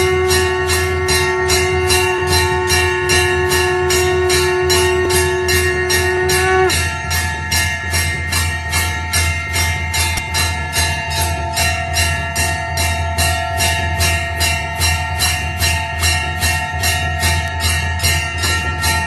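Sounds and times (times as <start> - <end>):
temple bells ringing rapidly: 0.0 - 19.0.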